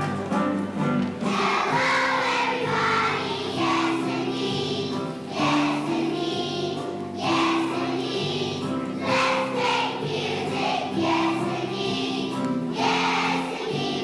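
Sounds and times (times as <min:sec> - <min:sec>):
children's choir singing: 0:00.0 - 0:14.0
instrumental accompaniment: 0:00.0 - 0:14.0.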